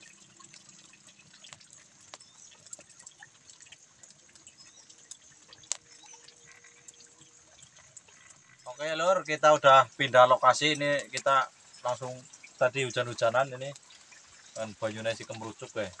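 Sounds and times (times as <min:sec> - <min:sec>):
light rain dripping: 0:00.0 - 0:16.0.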